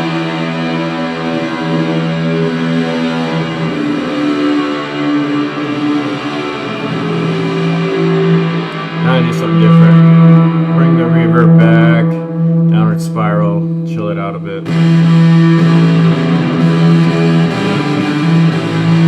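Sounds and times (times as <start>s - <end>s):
ambient electric guitar notes: 0.0s - 19.0s.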